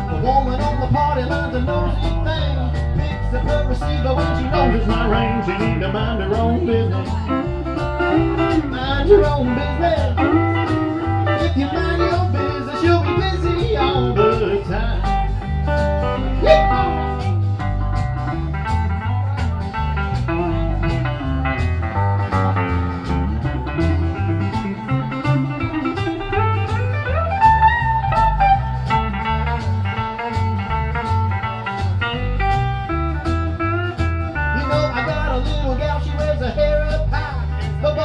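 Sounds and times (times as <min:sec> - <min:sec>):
steady two-beat rhythm: 0:00.0 - 0:38.0
twangy lead sliding notes: 0:00.0 - 0:38.0
walking bass line: 0:00.0 - 0:38.0.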